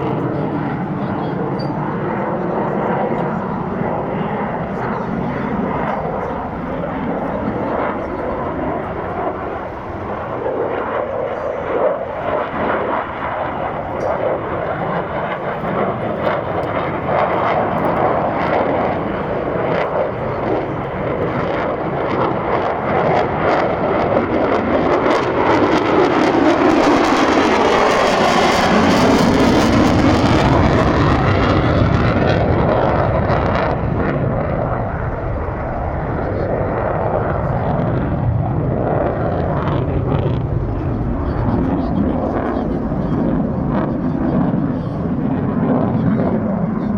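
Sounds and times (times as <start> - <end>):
fighter jet roaring past: 0.0 - 46.9.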